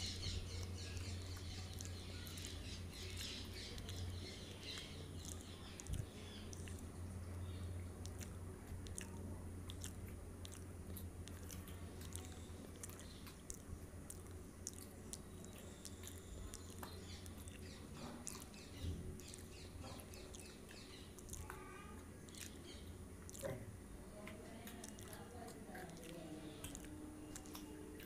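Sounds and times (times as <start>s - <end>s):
chewing with wet mouth clicks: 0.0s - 28.0s
steady low hum: 0.0s - 28.0s.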